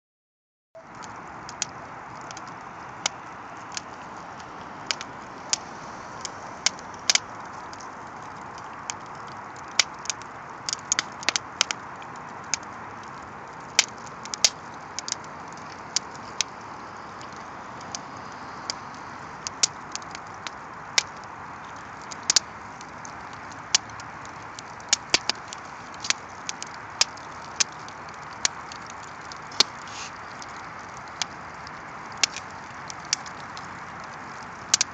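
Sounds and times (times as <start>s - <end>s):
fire crackling and popping: 0.8s - 34.9s
fire hissing: 1.5s - 34.9s.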